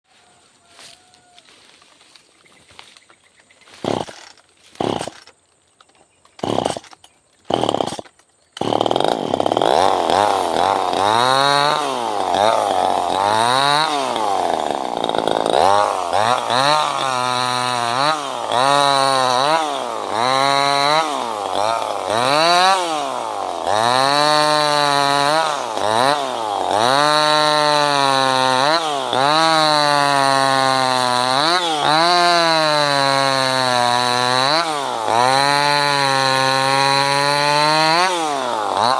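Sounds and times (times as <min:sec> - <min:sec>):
chainsaw engine revving: 0:03.7 - 0:05.4, 0:06.3 - 0:38.9.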